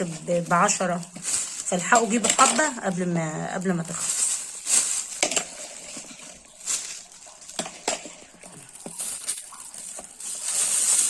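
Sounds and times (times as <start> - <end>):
kitchen items clicking and tapping: 0.0 - 11.0
plastic bags rustling: 0.0 - 11.0.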